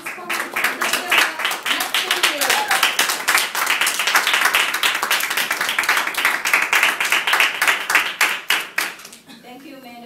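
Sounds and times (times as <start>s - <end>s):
audience clapping: 0.0s - 9.2s.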